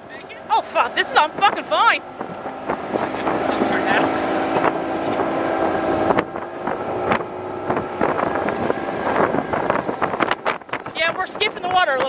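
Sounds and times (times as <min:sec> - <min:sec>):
motorboat engine running: 0:00.0 - 0:12.0
wind on microphone: 0:00.0 - 0:12.0.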